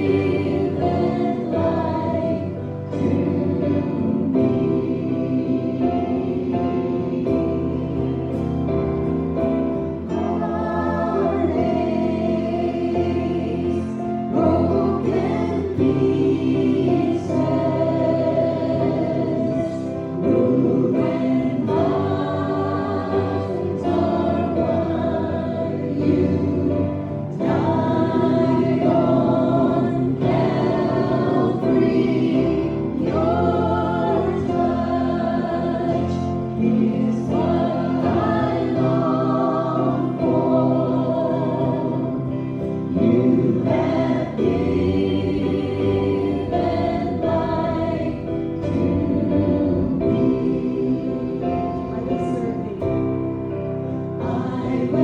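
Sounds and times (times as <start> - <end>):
group singing gospel song: 0.0 - 55.0.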